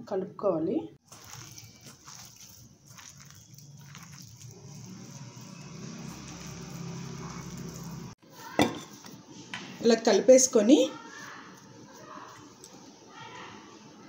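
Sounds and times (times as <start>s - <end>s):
hand squishing dough: 1.0s - 14.0s.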